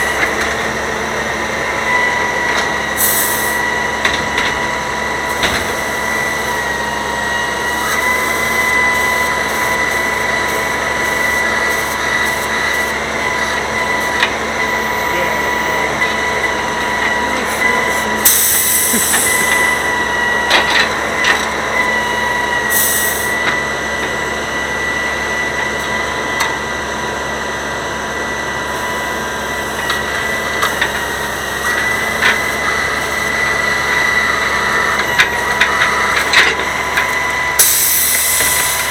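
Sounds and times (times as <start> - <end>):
truck high whine: 0.0 - 38.9.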